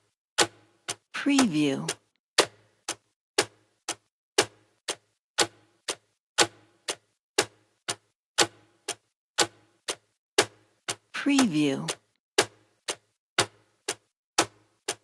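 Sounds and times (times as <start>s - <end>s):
clock ticking: 0.4s - 15.0s.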